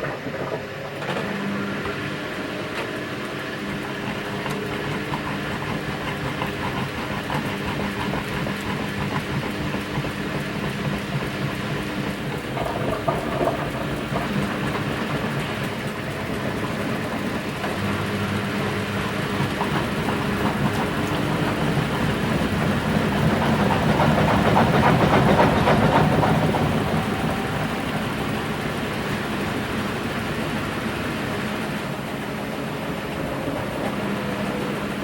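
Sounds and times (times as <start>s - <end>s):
low motor hum: 0.0s - 35.0s
water sloshing in washing machine: 0.0s - 35.0s.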